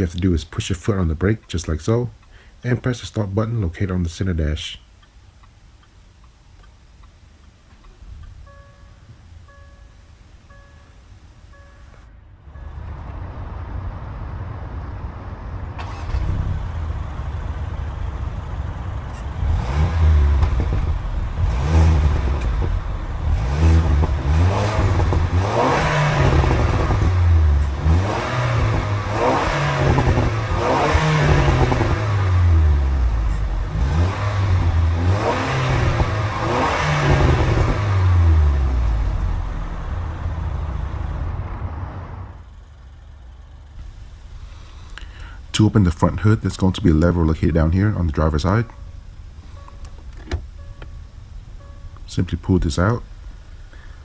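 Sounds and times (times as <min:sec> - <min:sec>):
car engine revving: 0:10.2 - 0:54.0.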